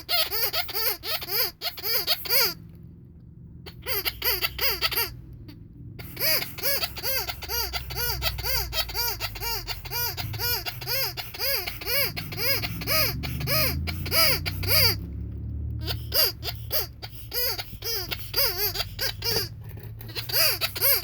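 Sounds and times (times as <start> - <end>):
rubber squeaky toy squeaking: 0.0 - 2.7, 3.7 - 15.1, 15.8 - 21.0.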